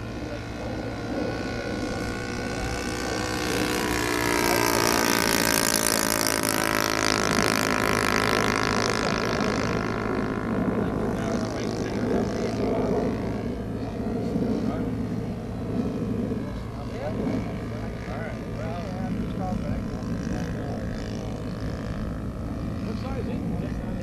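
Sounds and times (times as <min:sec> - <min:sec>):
model airplane motor droning: 0:00.0 - 0:24.0.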